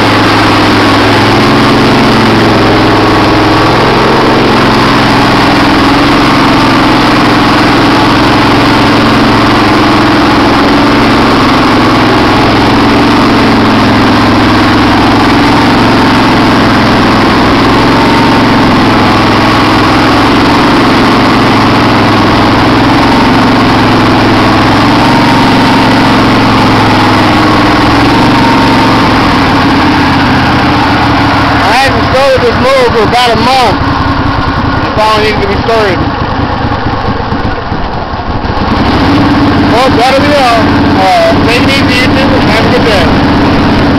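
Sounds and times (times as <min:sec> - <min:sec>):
lawn tractor engine idling: 0:00.0 - 0:43.9.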